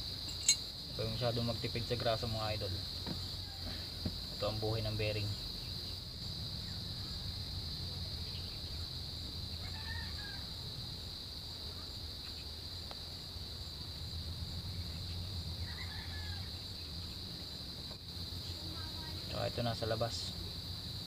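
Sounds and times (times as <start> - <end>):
insects chirring: 0.0 - 21.0
low steady hum: 0.0 - 21.0.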